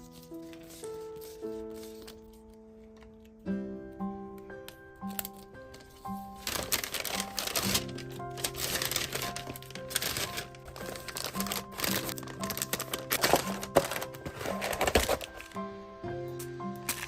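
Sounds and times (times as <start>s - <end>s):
paper and plastic crinkling: 0.0s - 3.4s, 5.1s - 15.6s
soft background music: 0.0s - 17.0s.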